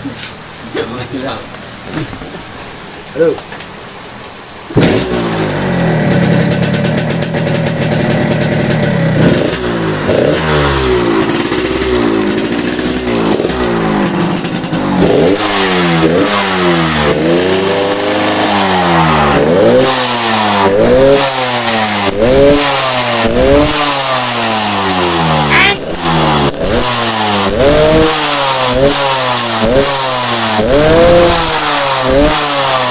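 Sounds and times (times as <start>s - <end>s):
motorcycle engine revving: 4.0s - 32.9s.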